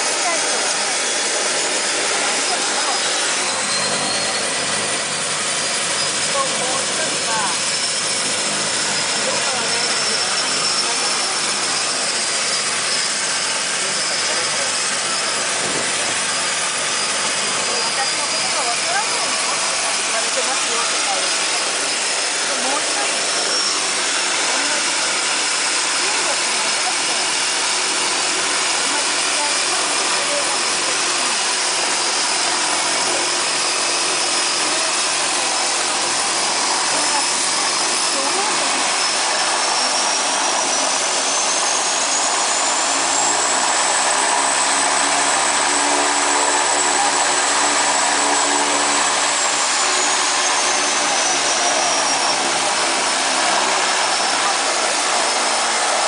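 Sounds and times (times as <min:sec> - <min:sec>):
aircraft engines rushing noise: 0:00.0 - 0:56.0
thin high whine: 0:00.0 - 0:56.0.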